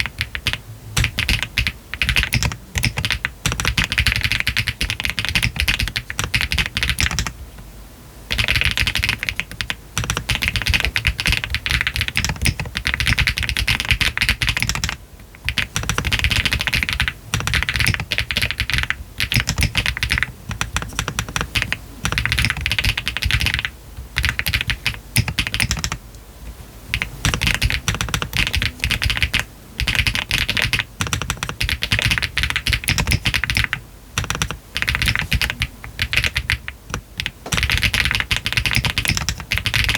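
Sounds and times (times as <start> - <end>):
typing on mechanical keyboard: 0.0 - 7.3, 8.3 - 26.0, 26.9 - 39.9.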